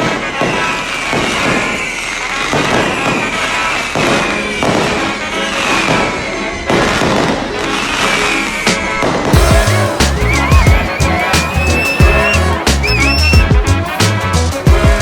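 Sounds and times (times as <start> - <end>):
firecrackers and fireworks banging: 0.0 - 15.0.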